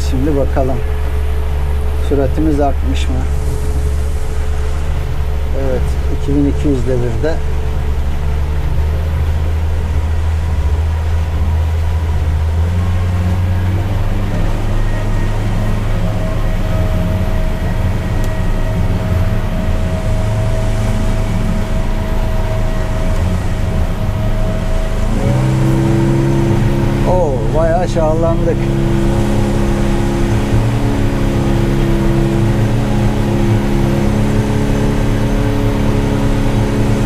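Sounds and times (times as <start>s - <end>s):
outboard motor drone: 0.0s - 37.0s
thin steady whine: 0.0s - 37.0s.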